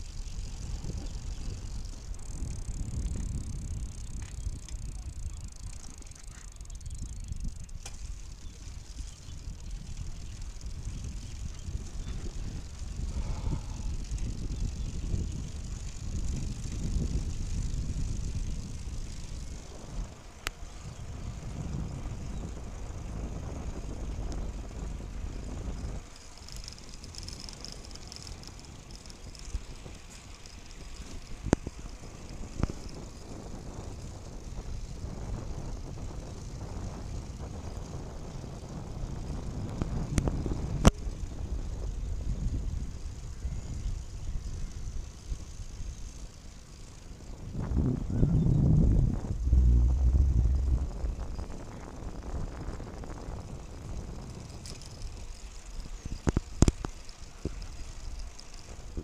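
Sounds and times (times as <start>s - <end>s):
bicycle tyres on paved road: 0.0s - 59.0s
wind rumbling on microphone: 0.0s - 59.0s.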